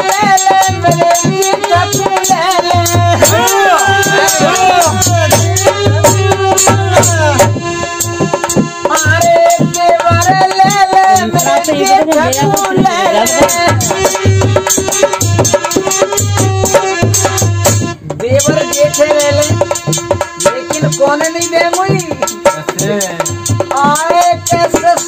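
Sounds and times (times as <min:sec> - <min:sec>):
drum beating steady rhythm: 0:00.0 - 0:25.0
harmonium melody: 0:00.0 - 0:25.0.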